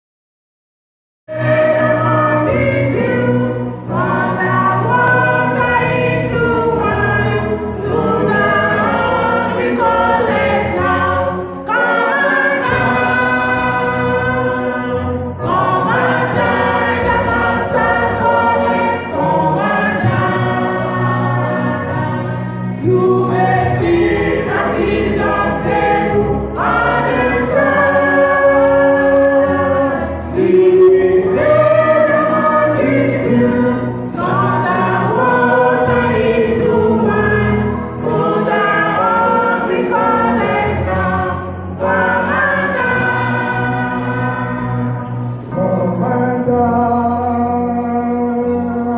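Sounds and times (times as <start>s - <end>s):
church choir singing: 1.3s - 48.9s.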